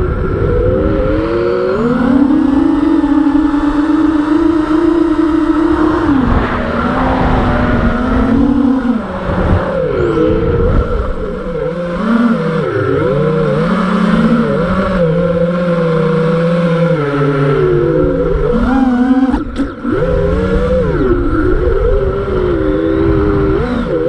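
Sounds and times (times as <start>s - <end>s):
drone motors whining: 0.0s - 24.0s
wind rumble on microphone: 0.0s - 24.0s.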